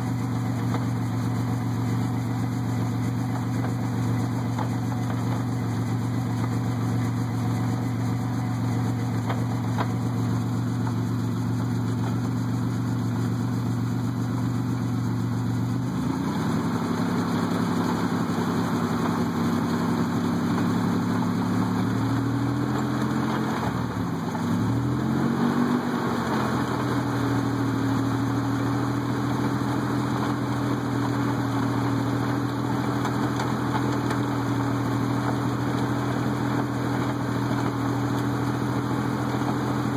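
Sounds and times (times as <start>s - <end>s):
truck engine: 0.0s - 39.9s.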